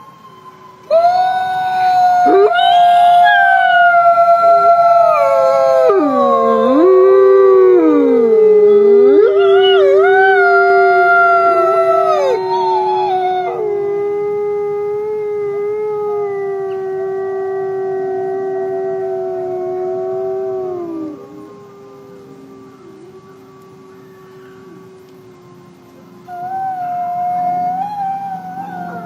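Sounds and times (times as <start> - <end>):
wolves howling in chorus: 0.0 - 29.0.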